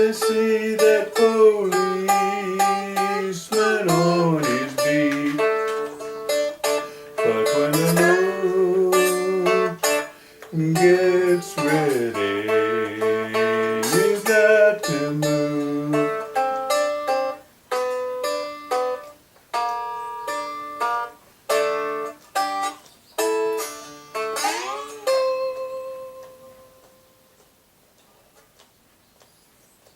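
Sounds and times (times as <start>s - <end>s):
fingerpicked blues guitar: 0.0s - 27.6s.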